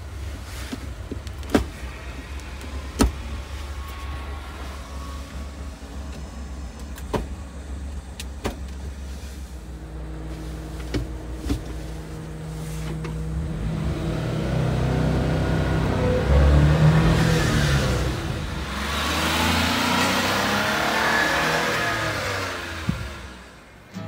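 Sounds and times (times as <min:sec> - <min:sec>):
small truck engine: 0:00.0 - 0:24.0.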